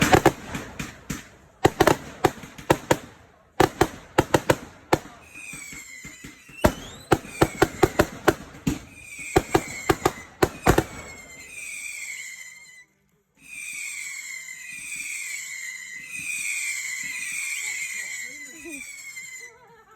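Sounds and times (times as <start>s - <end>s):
firework shots: 0.0s - 12.8s, 13.4s - 19.5s
falling firework whistles: 0.0s - 19.9s.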